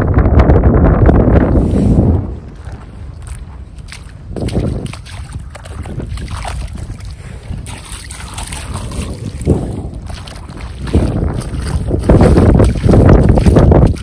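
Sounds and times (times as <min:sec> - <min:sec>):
wind rumbling on microphone: 0:00.0 - 0:14.0
water sloshing around wading person: 0:02.4 - 0:14.0.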